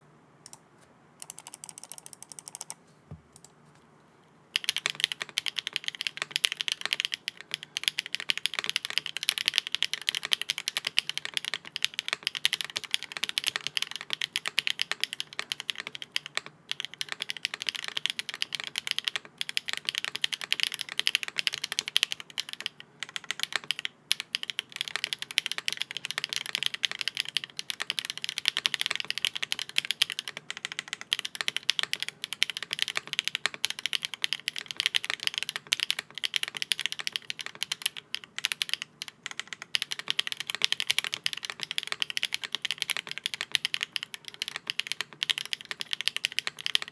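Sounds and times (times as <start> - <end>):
clacky mechanical keyboard typing: 1.2 - 2.8, 4.6 - 46.9.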